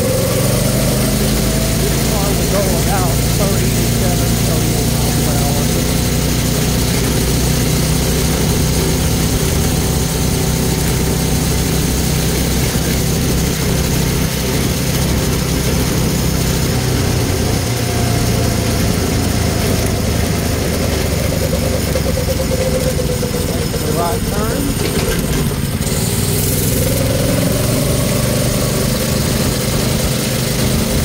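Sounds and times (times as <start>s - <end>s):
go-kart engine running: 0.0s - 31.0s.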